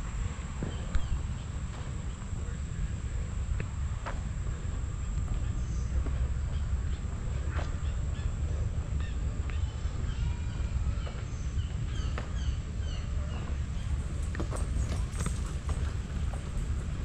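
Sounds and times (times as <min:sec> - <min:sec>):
low microphone rumble: 0:00.0 - 0:17.0
birds calling: 0:00.6 - 0:02.9, 0:04.9 - 0:17.0.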